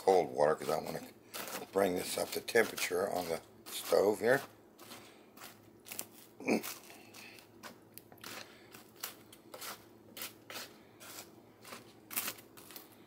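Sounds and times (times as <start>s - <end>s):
spatula scraping saucepan: 0.0s - 12.8s.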